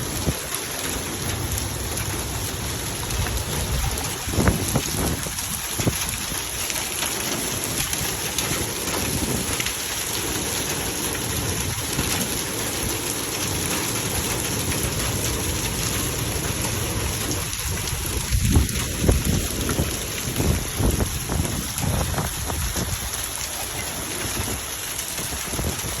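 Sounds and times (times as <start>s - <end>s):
hail and rain pelting down: 0.0s - 26.0s.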